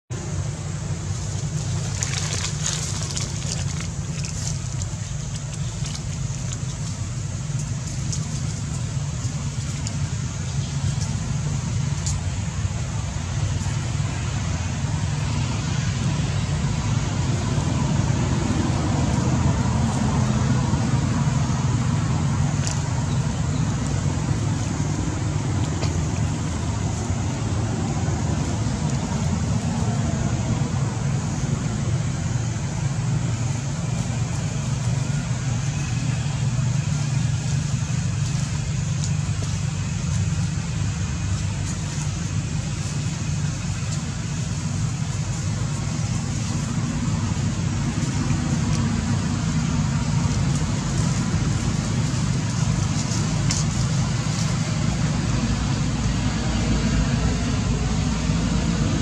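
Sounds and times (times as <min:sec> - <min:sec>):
steady low rumble: 0:00.1 - 0:59.0.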